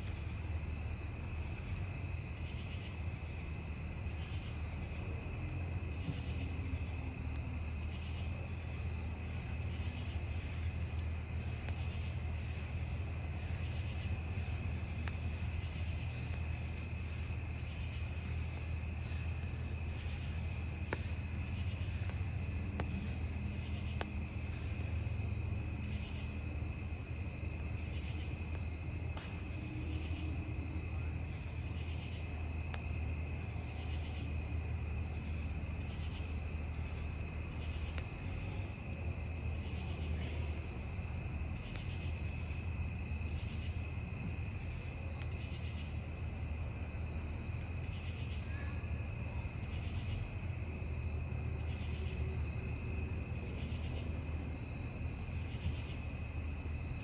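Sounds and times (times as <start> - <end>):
campfire rumble and crackles: 0.0 - 57.0
crickets trilling: 0.0 - 57.0.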